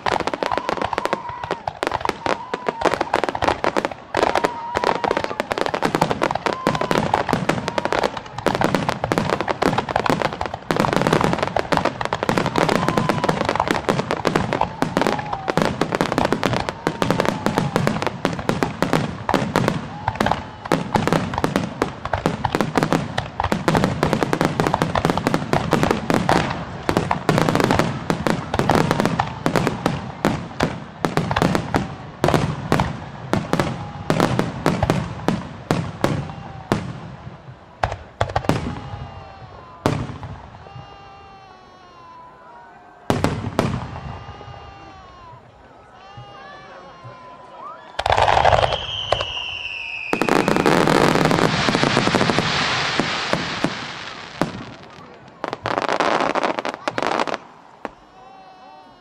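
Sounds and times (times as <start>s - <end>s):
fireworks bursting and crackling: 0.0s - 42.3s, 43.0s - 59.0s.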